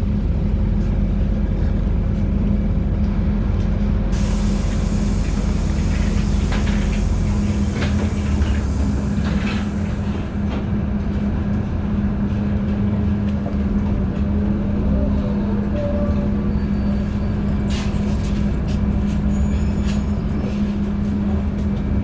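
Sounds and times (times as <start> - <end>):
bus engine hum: 0.0 - 22.0
road rumble: 0.0 - 22.0.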